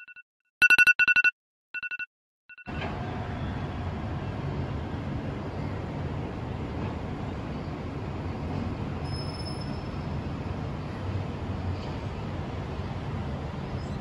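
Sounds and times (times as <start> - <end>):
distant city traffic rumble: 2.7 - 14.0.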